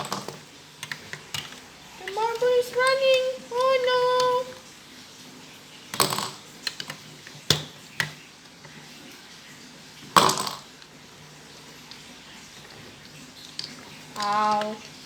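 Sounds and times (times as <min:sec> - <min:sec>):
marbles clattering on plastic track: 0:00.0 - 0:04.7, 0:05.9 - 0:08.8, 0:10.0 - 0:15.0.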